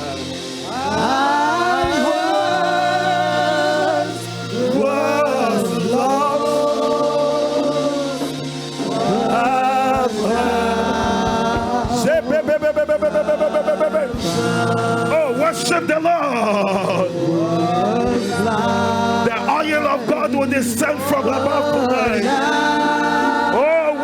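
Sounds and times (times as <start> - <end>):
gospel worship singing: 0.0 - 24.0
sustained keyboard chords: 0.0 - 24.0.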